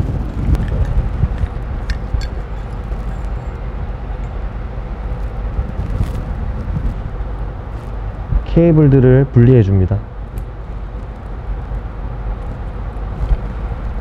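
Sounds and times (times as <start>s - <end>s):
factory rumble: 0.0s - 14.0s.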